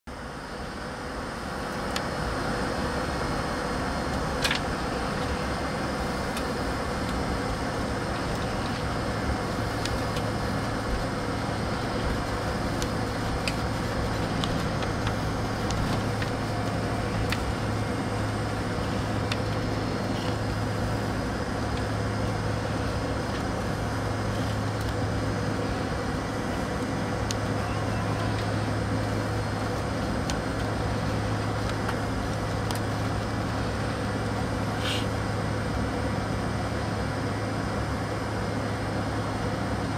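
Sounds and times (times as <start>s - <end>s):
jet engines droning at idle: 0.1s - 39.9s.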